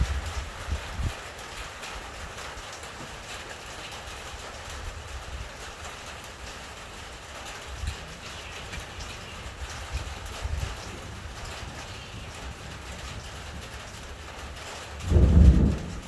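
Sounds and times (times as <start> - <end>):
wind buffeting microphone: 0.0 - 2.7, 4.2 - 16.0
rain falling hard: 0.0 - 16.0.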